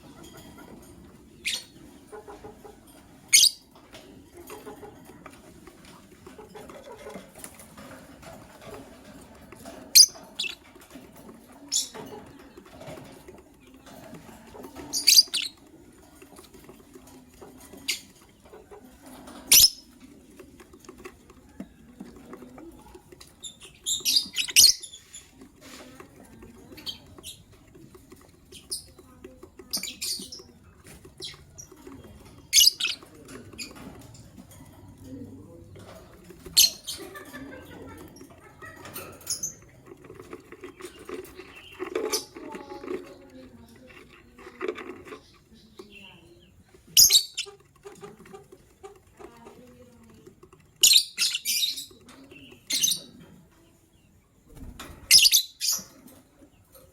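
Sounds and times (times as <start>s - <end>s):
lovebirds chirping: 0.0s - 3.8s, 9.6s - 15.7s, 17.6s - 20.0s, 20.7s - 27.6s, 28.4s - 34.1s, 35.8s - 56.9s.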